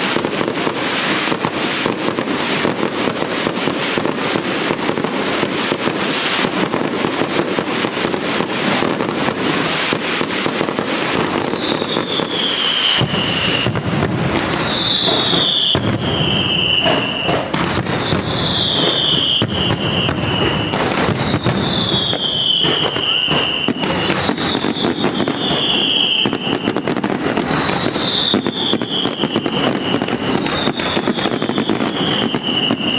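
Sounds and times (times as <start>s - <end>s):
falling firework whistles: 0.0s - 32.9s
firecrackers crackling: 0.0s - 32.9s.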